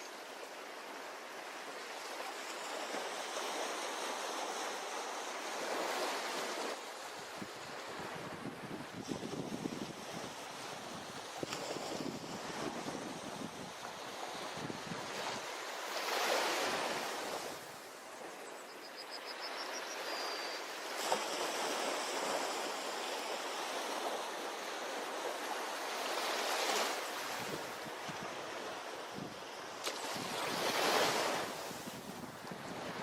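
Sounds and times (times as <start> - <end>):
ocean waves on a beach: 0.0 - 33.0.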